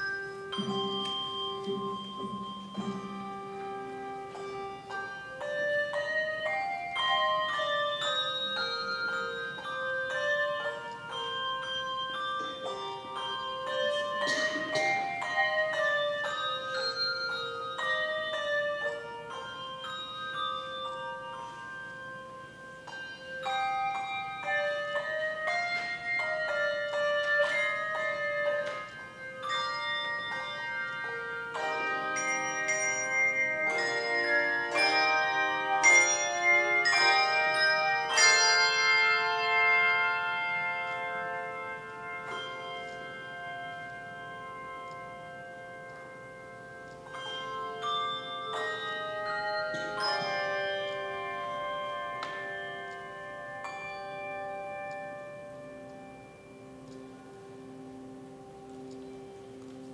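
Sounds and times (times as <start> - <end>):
handbell choir playing: 0.0 - 59.9.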